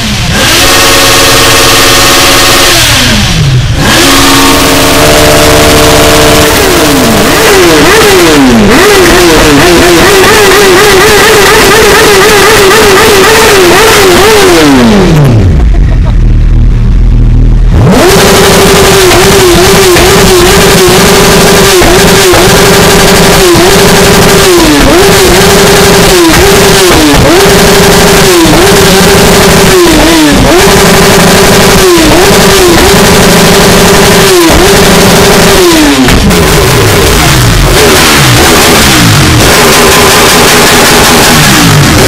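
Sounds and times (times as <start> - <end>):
motorcycle engine revving hard: 0.0 - 42.0.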